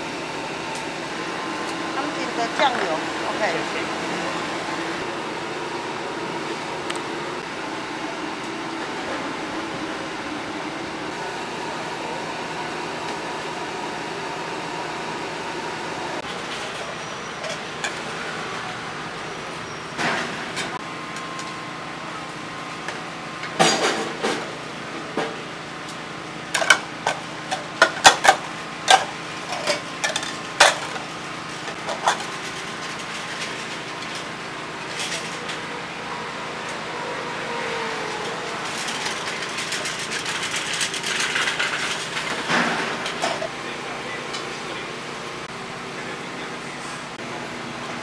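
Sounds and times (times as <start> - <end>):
steady background hum: 0.0 - 48.0.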